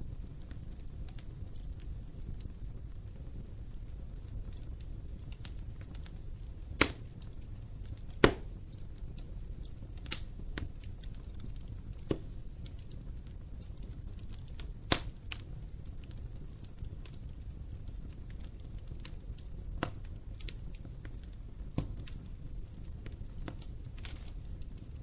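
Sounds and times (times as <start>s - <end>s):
fire crackling and popping: 0.0s - 25.0s
fire flames rumbling: 0.0s - 25.0s.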